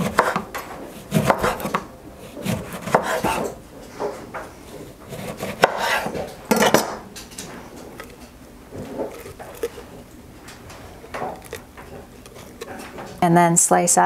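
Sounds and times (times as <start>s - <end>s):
handling noise: 1.8s - 13.3s.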